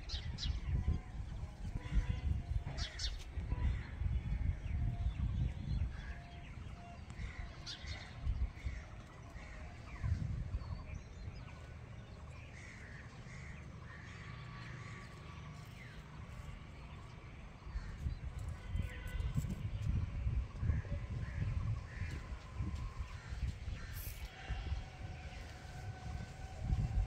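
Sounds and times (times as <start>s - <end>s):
wind rumble on microphone: 0.0s - 12.8s, 16.2s - 27.0s.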